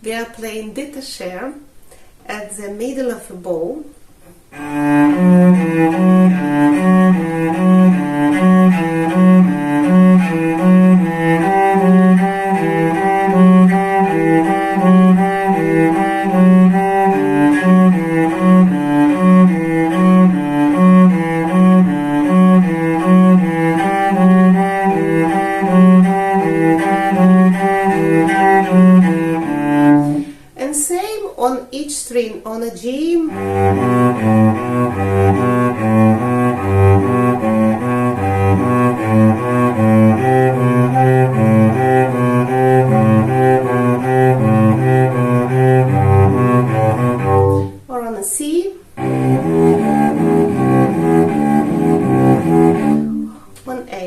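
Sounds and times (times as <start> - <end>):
solo cello bowed notes: 4.5 - 30.4, 33.3 - 47.9, 49.0 - 53.5.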